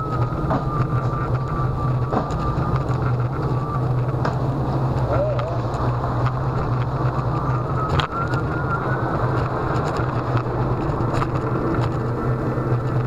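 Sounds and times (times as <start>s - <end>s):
faint rising whine: 0.0s - 13.0s
wind and road noise: 0.0s - 13.0s.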